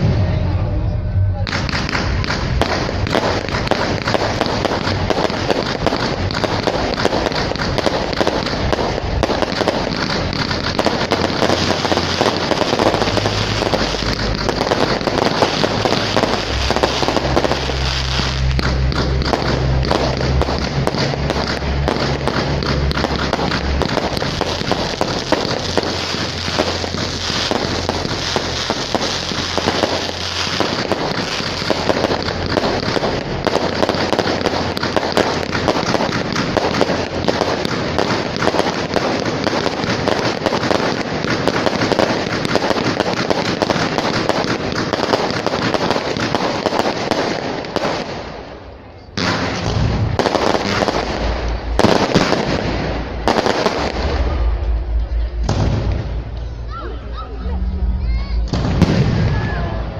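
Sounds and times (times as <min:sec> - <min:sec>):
fireworks bursting and crackling: 0:01.4 - 0:59.9.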